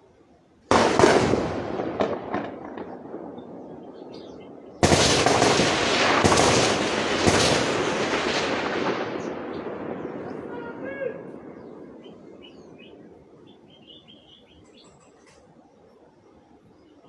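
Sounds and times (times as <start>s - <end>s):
gunshots with rolling echo: 0.7s - 14.4s.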